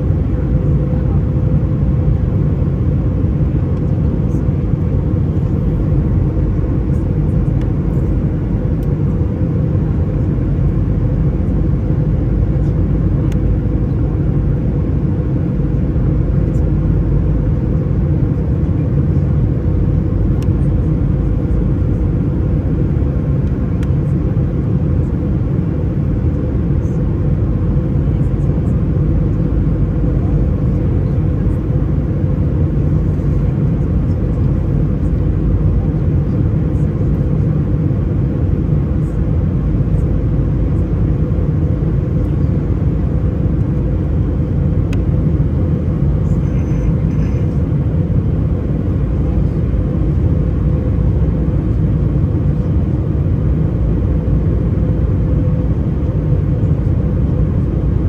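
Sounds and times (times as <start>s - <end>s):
jet engine cabin drone: 0.0s - 58.0s.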